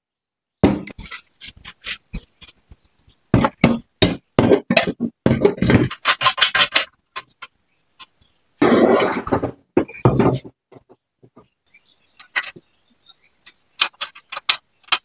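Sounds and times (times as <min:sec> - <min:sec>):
metal clunks and scrapes: 0:00.6 - 0:02.6, 0:03.4 - 0:11.5, 0:12.2 - 0:12.7, 0:13.5 - 0:15.0.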